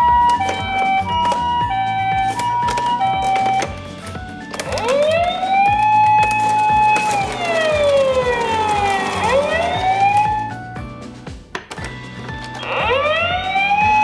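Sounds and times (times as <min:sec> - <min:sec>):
emergency siren wailing: 0:00.0 - 0:10.6, 0:12.6 - 0:14.0
background music: 0:00.0 - 0:14.0.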